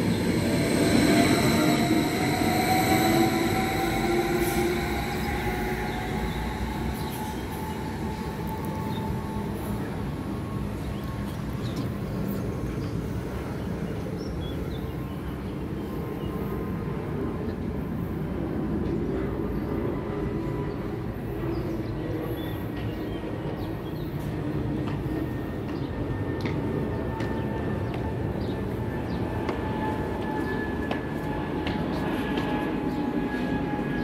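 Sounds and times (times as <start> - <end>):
electric train rumble and hum: 0.0 - 34.0.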